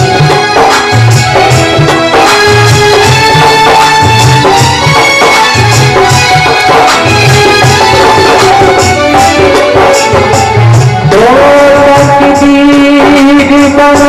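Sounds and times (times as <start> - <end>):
instrumental melody: 0.0 - 14.0
rhythmic drum beat: 0.0 - 14.0.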